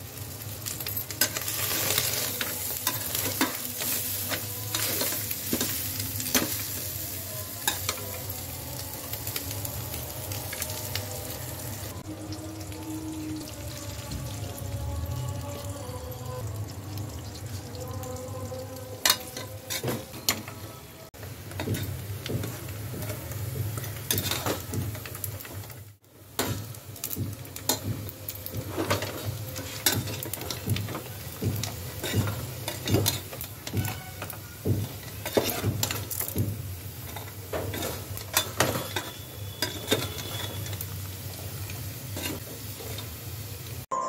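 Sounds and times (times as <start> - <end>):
meat sizzling: 0.0 - 20.3, 21.1 - 43.9.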